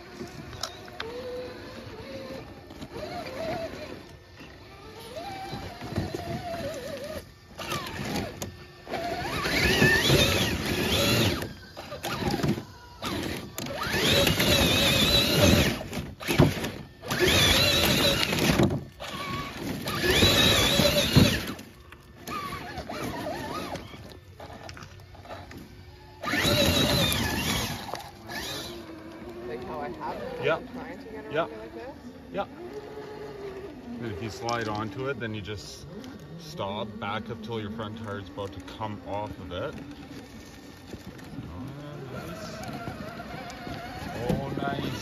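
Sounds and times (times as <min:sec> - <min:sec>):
rc car electric motor whining: 0:00.0 - 0:45.0.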